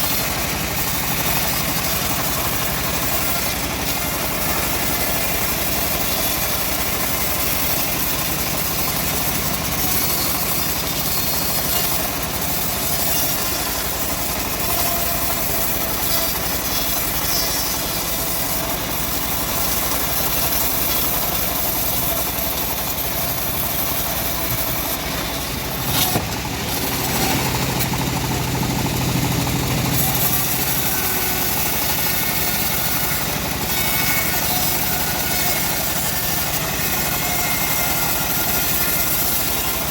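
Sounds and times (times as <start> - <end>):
bandsaw sawing a log: 0.0 - 39.9.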